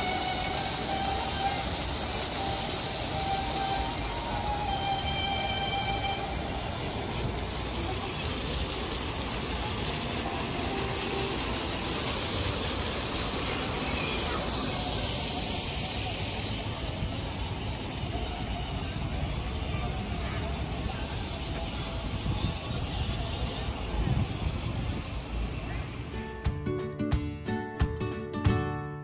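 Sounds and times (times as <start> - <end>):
fountain water splashing: 0.0 - 26.1.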